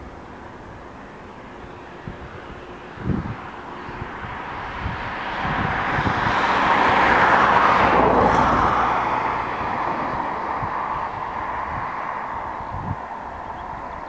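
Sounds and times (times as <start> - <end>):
aircraft passing close by: 0.0 - 14.0.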